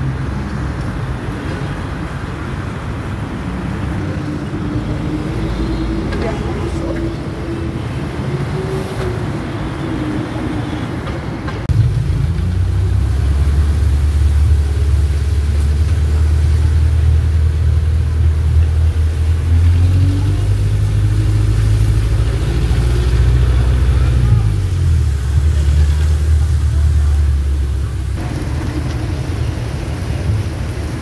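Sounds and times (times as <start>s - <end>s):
street traffic noise: 0.0s - 31.0s.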